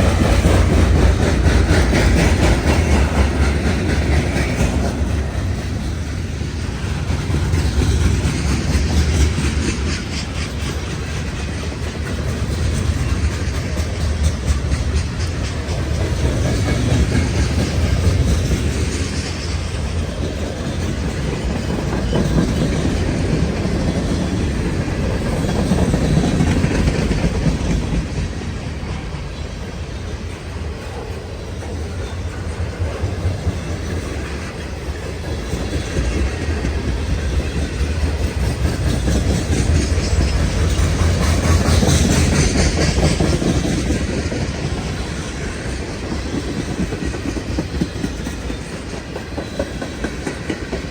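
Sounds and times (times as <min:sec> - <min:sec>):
freight train wheels clacking: 0:00.0 - 0:50.9.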